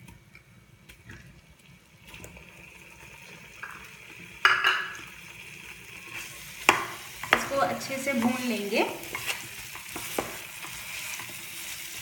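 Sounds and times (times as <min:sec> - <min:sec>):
ghee sizzling in a pan: 0:02.3 - 0:12.0.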